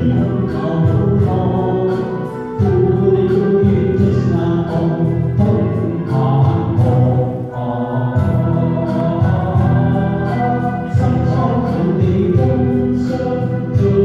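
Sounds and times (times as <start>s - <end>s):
instrumental accompaniment: 0.0s - 14.0s
man and woman singing duet: 0.0s - 14.0s.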